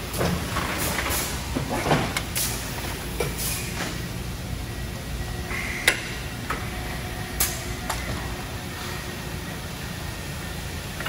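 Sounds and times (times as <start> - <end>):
factory low rumble: 0.0 - 11.0.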